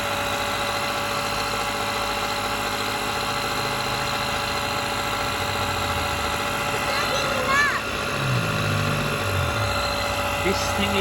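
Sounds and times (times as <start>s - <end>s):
portable air compressor running: 0.0s - 11.0s.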